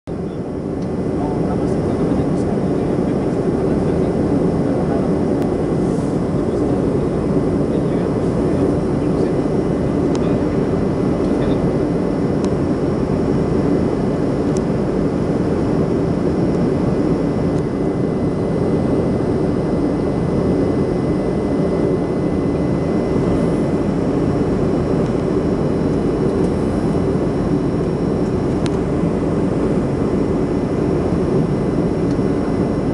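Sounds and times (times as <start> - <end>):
airplane cabin engine roar: 0.1 - 32.9.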